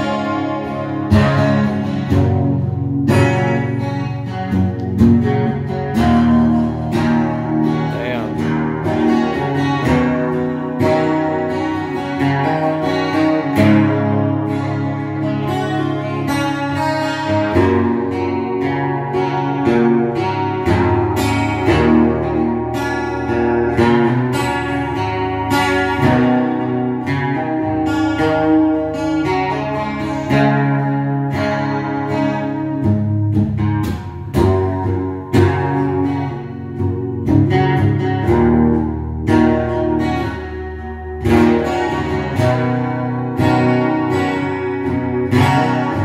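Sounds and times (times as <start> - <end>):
acoustic guitar strummed: 0.0 - 46.0.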